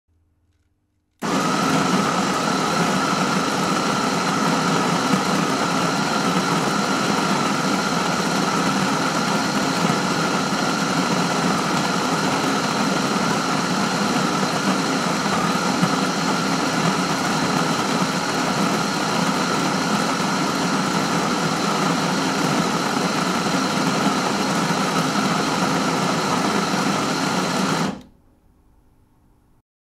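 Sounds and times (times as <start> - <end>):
electric coffee grinder grinding: 1.2 - 28.1.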